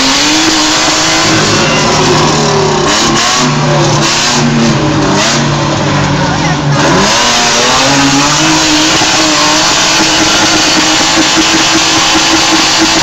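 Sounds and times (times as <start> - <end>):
buggy engine revving hard: 0.0 - 13.0.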